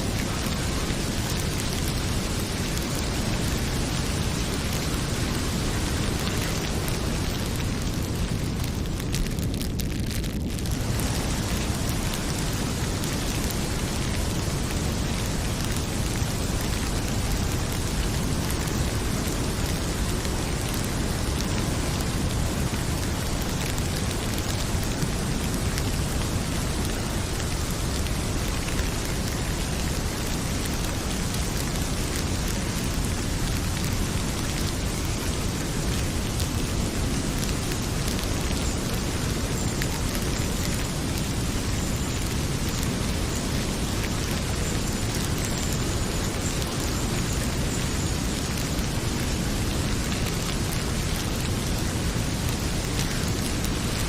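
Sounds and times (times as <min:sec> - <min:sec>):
heavy rain pouring: 0:00.0 - 0:54.0
wood fire crackling: 0:00.0 - 0:54.0.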